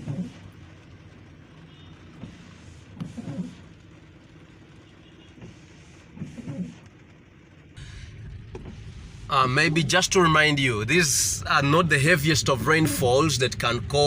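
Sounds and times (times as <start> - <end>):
car engine hum from cabin: 0.0 - 14.0.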